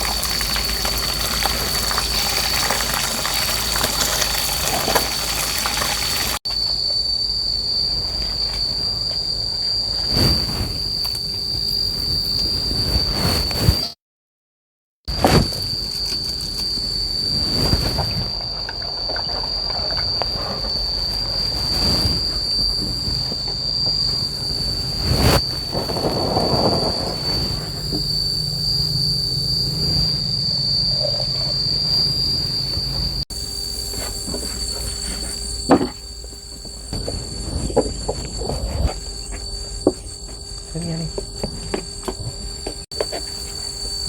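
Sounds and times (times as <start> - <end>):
insects chirring: 0.0 - 14.0, 15.1 - 44.0.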